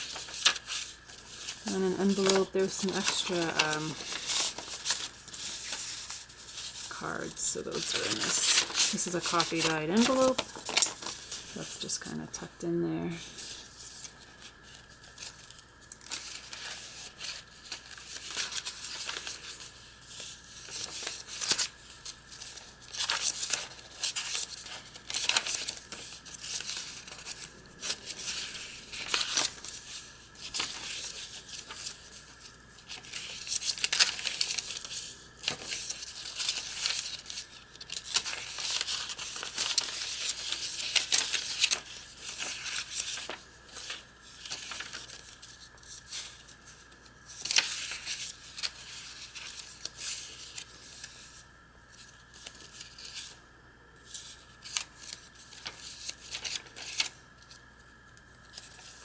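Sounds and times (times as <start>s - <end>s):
paper rustling and crinkling: 0.0s - 53.4s, 54.0s - 59.0s.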